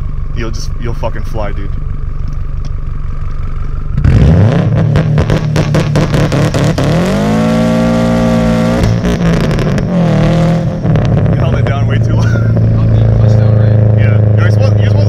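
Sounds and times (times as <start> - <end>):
engine crackling at the limiter: 0.0 - 15.0.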